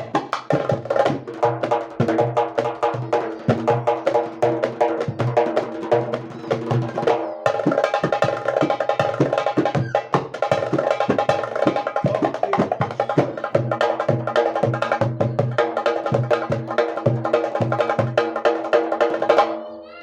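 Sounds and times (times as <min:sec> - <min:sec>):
goblet drum playing fast: 0:00.0 - 0:19.7.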